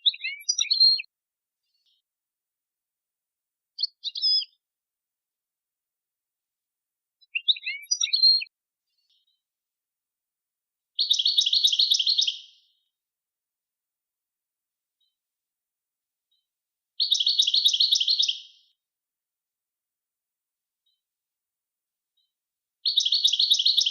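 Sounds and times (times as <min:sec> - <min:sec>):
songbird song: 0:00.0 - 0:13.1, 0:14.5 - 0:15.4, 0:16.0 - 0:18.9, 0:20.7 - 0:21.3, 0:22.0 - 0:23.9.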